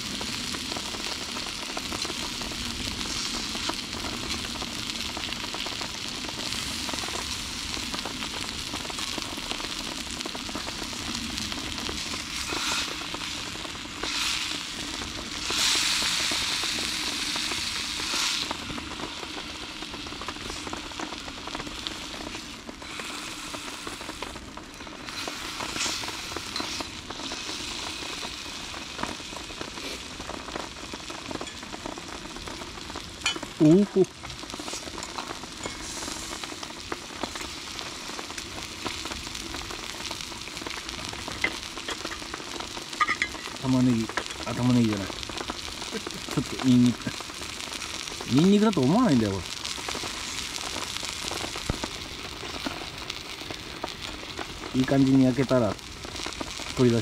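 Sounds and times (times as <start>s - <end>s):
meat sizzling in a frying pan: 0.0s - 57.0s.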